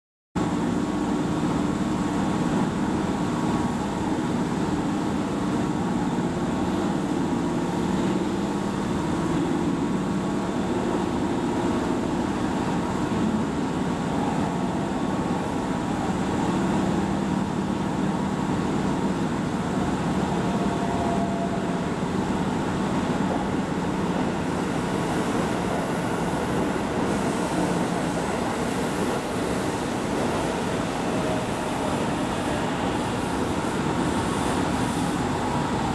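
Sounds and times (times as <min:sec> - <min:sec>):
train wheels and motors running: 0:00.4 - 0:35.9.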